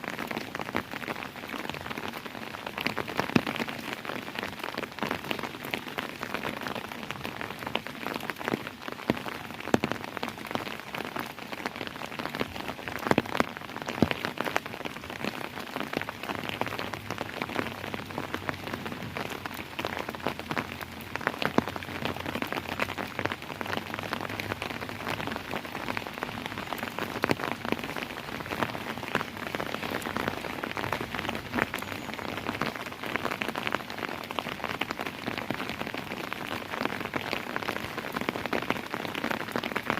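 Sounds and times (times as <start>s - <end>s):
raindrops patting on hard surface: 0.0s - 39.9s
steady rain falling: 0.0s - 39.9s.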